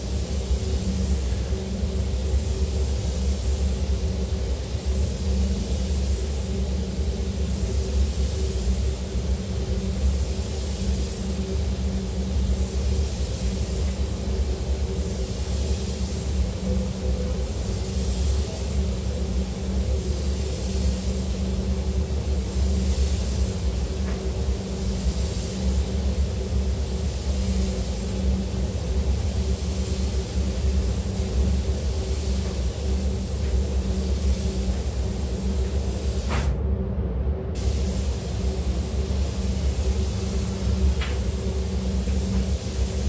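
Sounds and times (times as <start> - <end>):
spray gun hissing: 0.0 - 36.5, 37.6 - 43.0
fans rumbling: 0.0 - 43.0.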